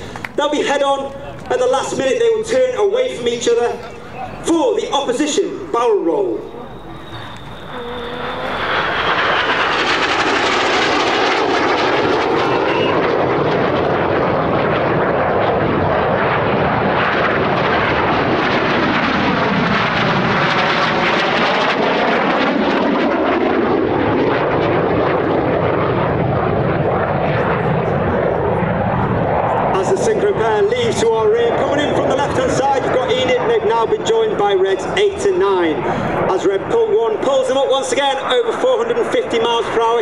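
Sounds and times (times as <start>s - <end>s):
jet aircraft flying low: 0.0s - 40.0s.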